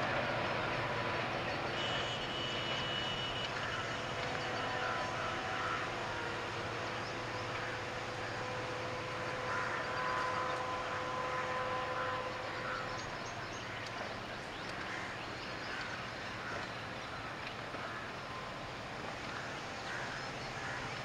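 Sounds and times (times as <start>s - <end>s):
distant train rumbling: 0.0s - 21.0s.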